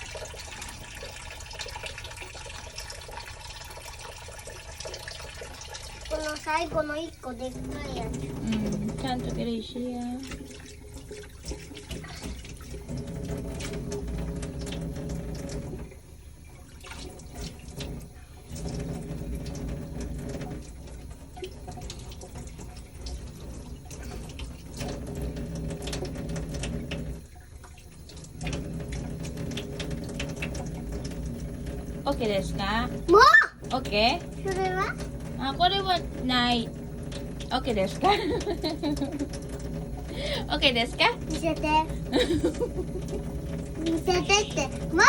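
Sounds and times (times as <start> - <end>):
splashing: 0.0 - 45.0
water running from tap: 0.0 - 45.0.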